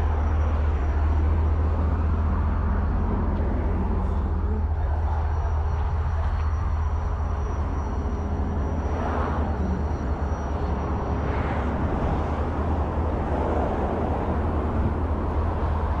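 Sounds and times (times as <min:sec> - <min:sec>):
vehicle and road rumble: 0:00.0 - 0:16.0.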